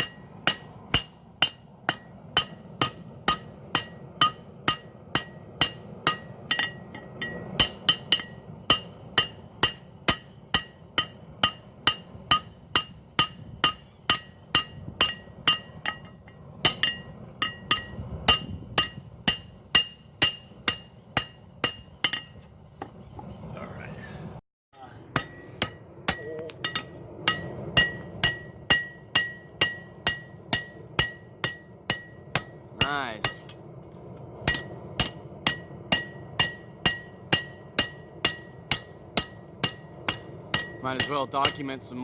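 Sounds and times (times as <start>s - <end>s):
hammer striking steel on anvil: 0.0s - 22.5s, 25.1s - 33.7s, 34.4s - 42.0s.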